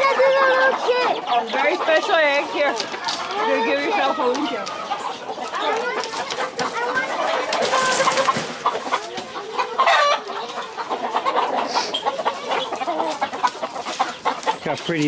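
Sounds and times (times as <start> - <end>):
chickens and roosters clucking: 0.0 - 15.0.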